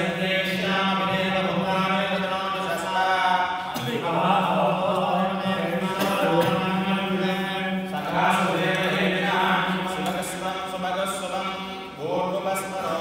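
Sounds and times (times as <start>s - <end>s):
group chanting: 0.0s - 11.2s.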